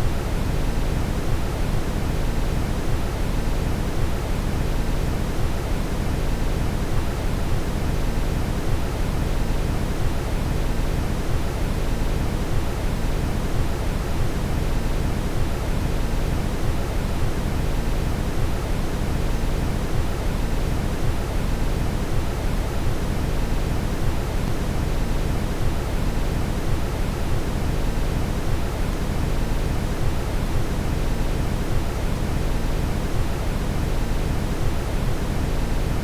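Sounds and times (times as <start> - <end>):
brown noise hiss: 0.0 - 36.0.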